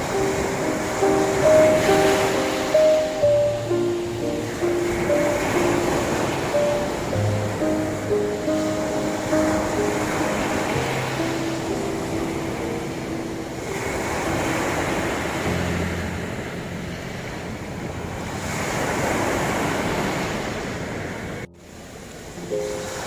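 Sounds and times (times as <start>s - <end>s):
soft piano notes: 0.0s - 20.7s, 21.4s - 23.0s
sea waves washing onto shore: 0.0s - 23.0s.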